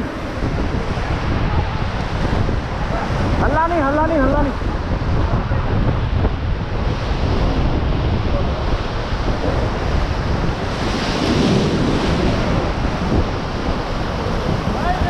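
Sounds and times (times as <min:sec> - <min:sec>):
rushing whitewater: 0:00.0 - 0:15.0
wind buffeting microphone: 0:00.0 - 0:15.0.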